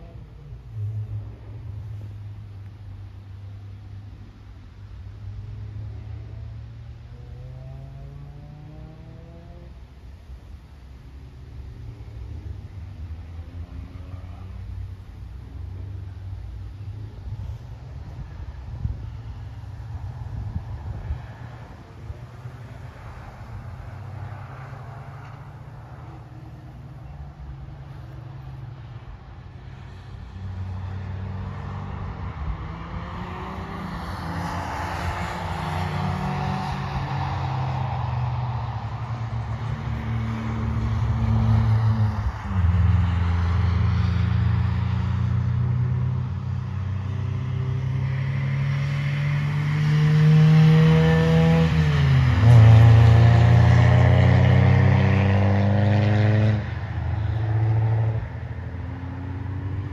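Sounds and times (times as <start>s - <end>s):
race car engines accelerating: 0.0s - 59.9s.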